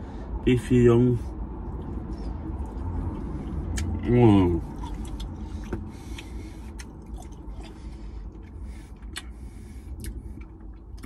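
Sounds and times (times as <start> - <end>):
low steady rumble: 0.0 - 11.0
man chewing with wet smacks: 1.6 - 11.0.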